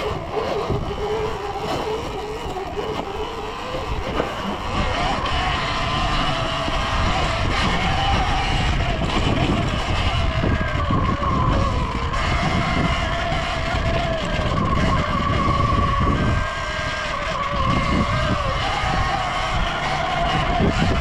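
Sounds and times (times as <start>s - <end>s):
electric motor whining: 0.0s - 21.0s
wind and tyres on dirt: 0.0s - 21.0s.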